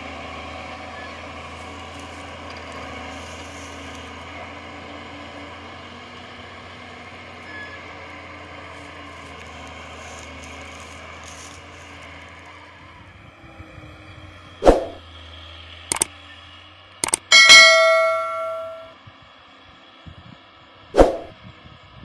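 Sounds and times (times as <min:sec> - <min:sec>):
diesel truck engine: 0:00.0 - 0:22.0.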